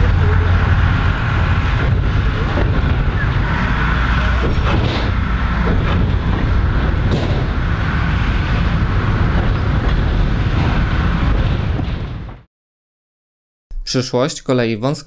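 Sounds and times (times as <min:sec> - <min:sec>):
moving train running noise: 0:00.0 - 0:12.5.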